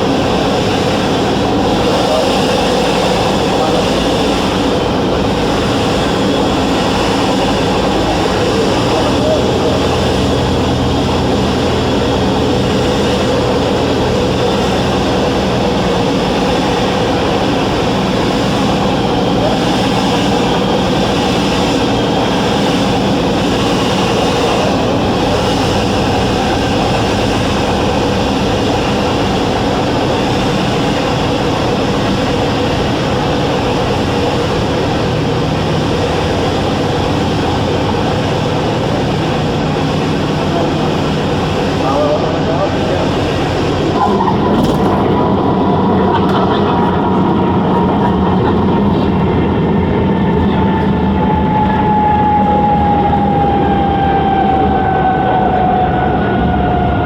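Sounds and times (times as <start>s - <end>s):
aircraft engine droning in cabin: 0.0s - 57.0s.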